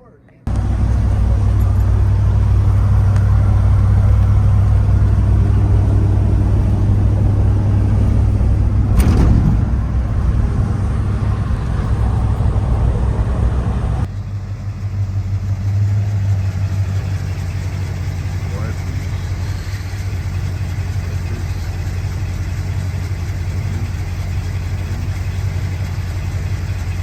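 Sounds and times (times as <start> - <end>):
truck engine rumbling: 0.5 - 27.0.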